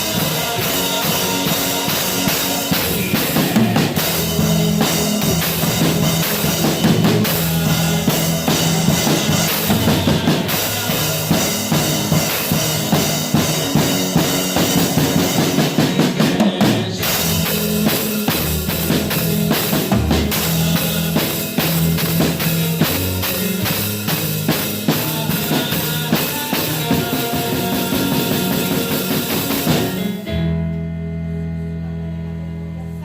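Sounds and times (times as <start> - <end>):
drum kit playing busy beat: 0.0 - 30.4
bass line: 0.0 - 33.0
worship music: 0.0 - 33.0.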